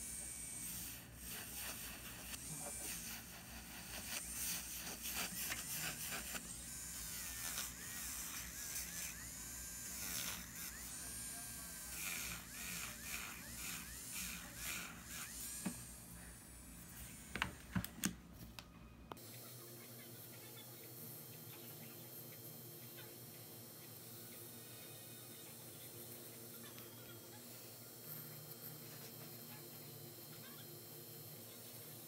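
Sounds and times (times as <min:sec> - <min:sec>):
electric nail drill grinding: 0:00.0 - 0:18.1, 0:20.9 - 0:32.0.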